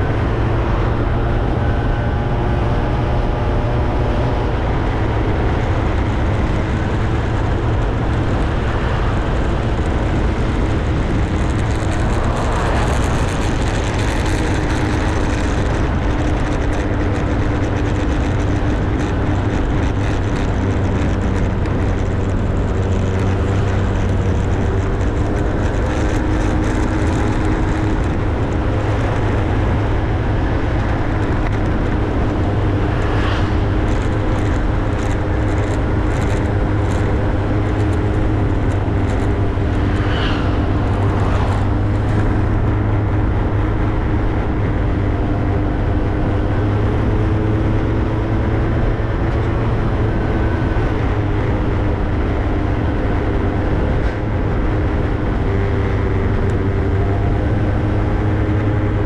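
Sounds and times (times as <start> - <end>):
motorbike engine hum: 0.0 - 59.0
wind and road noise: 0.0 - 59.0.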